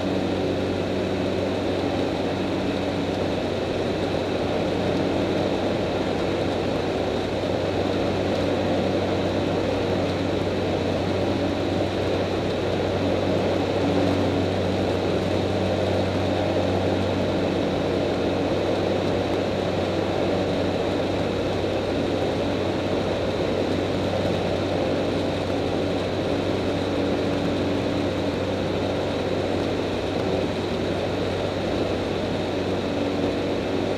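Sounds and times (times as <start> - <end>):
aircraft engine and propeller drone: 0.0 - 33.9.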